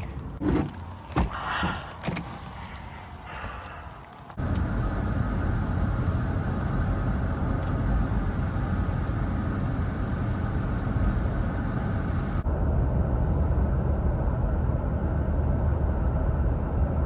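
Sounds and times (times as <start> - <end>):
pickup truck engine and road noise: 0.0 - 16.9.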